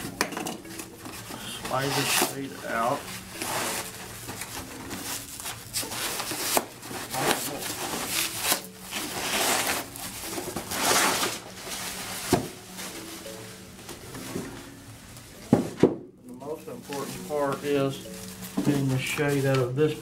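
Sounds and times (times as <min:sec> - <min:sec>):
cardboard and plastic rustling: 0:00.0 - 0:20.0.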